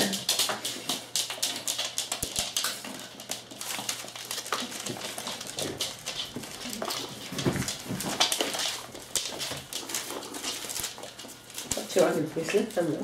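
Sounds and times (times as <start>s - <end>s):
puppy claws clicking on wooden floor: 0.0s - 13.0s.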